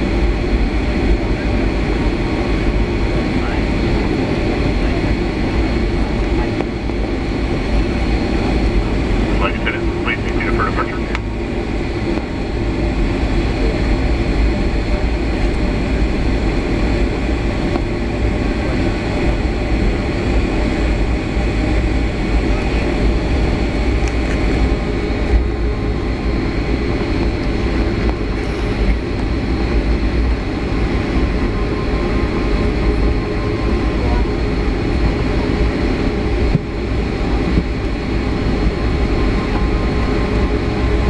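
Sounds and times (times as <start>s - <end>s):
jet cabin engine rumble: 0.0s - 41.0s.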